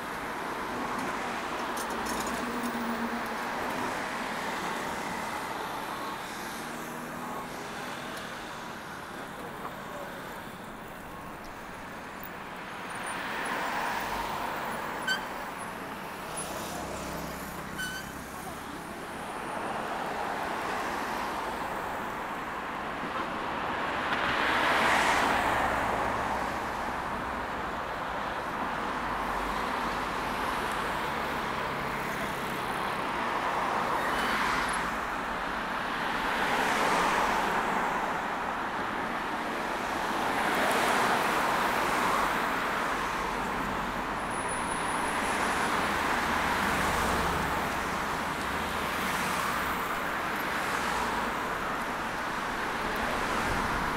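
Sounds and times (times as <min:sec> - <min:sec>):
background traffic noise: 0:00.0 - 0:53.9
cars passing: 0:00.0 - 0:53.9.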